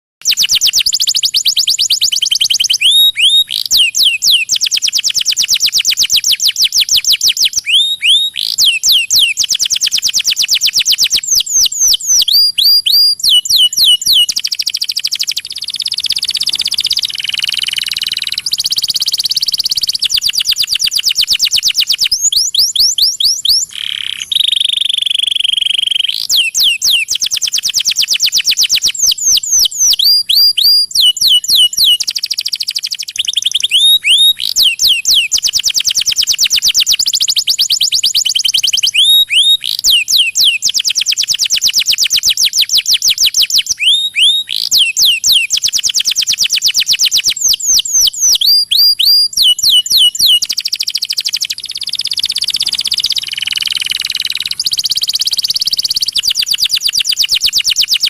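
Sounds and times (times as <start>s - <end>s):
canary trilling: 0.2s - 58.0s
down-slurred bird whistles: 0.2s - 58.0s.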